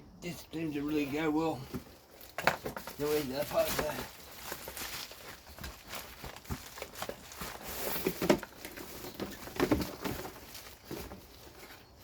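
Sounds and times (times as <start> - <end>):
parts and packaging clicking and knocking: 1.7 - 11.8.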